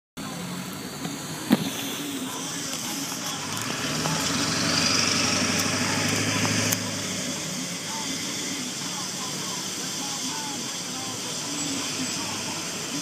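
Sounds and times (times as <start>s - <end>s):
car engine: 0.2s - 13.0s
road noise: 0.2s - 13.0s.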